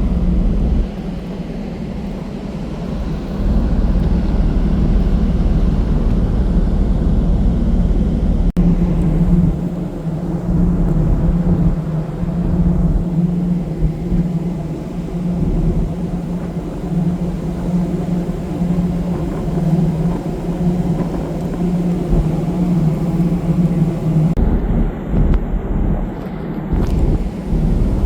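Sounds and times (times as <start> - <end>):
ferry engines droning: 0.0 - 28.0
rumbling wash of water: 0.0 - 28.0.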